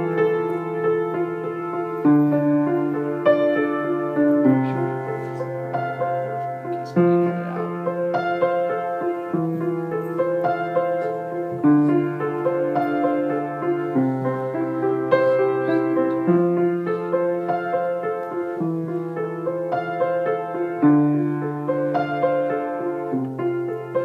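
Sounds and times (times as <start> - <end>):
keyboard playing slow chords: 0.0 - 24.0.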